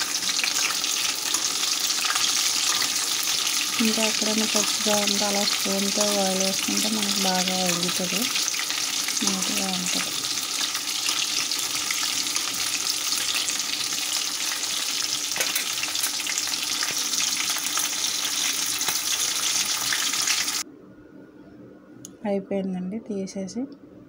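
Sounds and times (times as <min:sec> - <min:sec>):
chicken sizzling in oil: 0:00.0 - 0:20.6.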